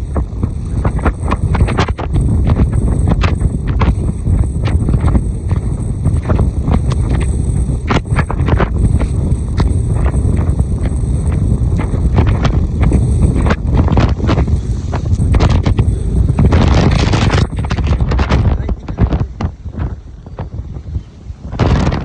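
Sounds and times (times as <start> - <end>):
rough sea: 0.0 - 22.0
wind buffeting microphone: 0.0 - 22.0.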